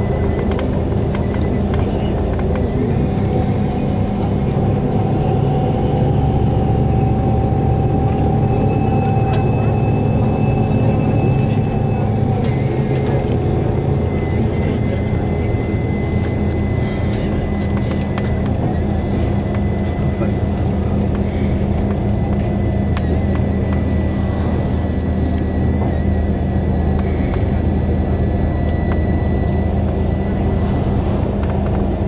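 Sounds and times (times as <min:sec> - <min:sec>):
bus engine drone: 0:00.0 - 0:32.0
road noise: 0:00.0 - 0:32.0.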